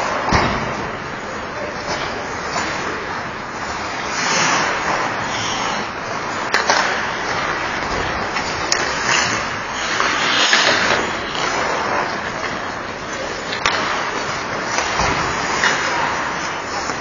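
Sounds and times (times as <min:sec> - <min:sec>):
skate blades scraping ice: 0:01.6 - 0:17.0.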